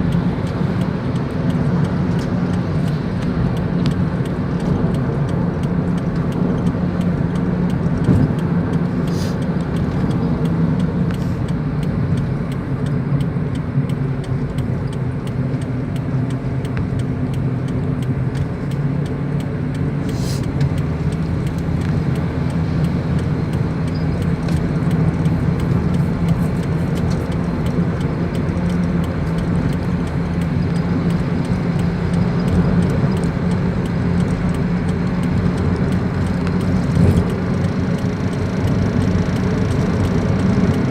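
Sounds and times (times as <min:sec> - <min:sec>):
car engine and tyre drone: 0:00.0 - 0:40.9
faint ticks: 0:00.0 - 0:40.9.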